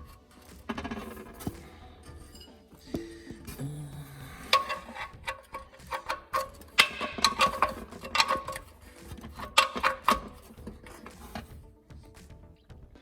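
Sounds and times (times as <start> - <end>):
hand tools clicking on metal: 0.0 - 11.6.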